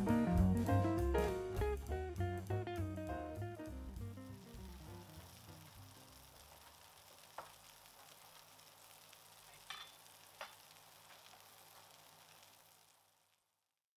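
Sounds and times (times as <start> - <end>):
faint hiss: 0.0 - 13.9.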